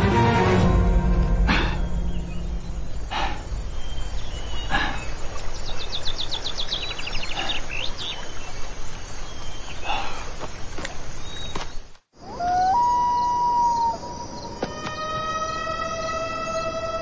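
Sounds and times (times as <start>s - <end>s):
steady outdoor noise bed: 0.6s - 17.0s.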